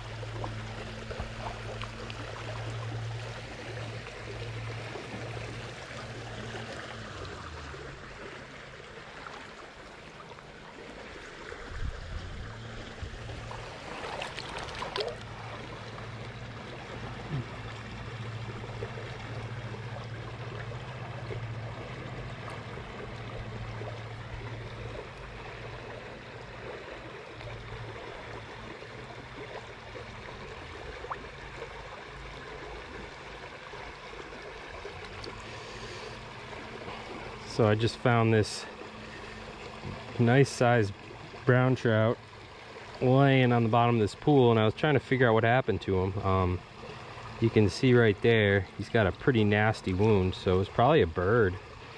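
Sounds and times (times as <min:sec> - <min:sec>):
stream water trickling: 0:00.0 - 0:51.9
water splashes: 0:00.0 - 0:51.9.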